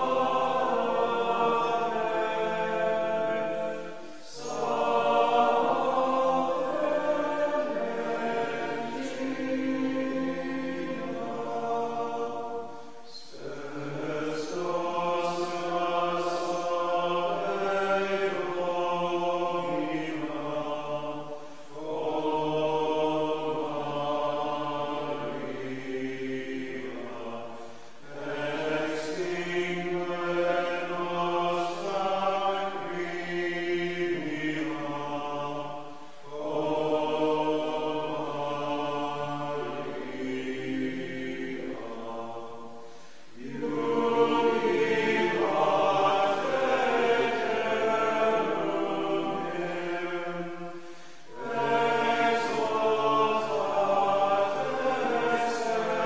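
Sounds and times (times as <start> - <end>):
voices singing a slow chant: 0.0 - 56.0.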